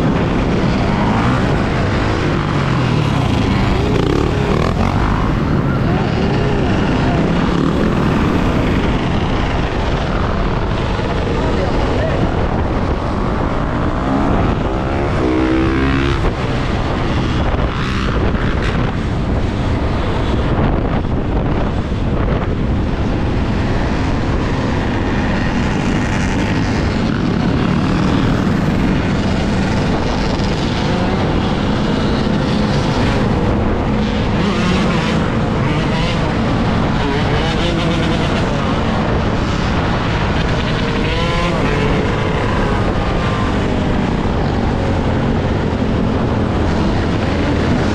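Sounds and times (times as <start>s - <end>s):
traffic: 0.0s - 47.9s
wind roaring over microphone: 0.0s - 47.9s.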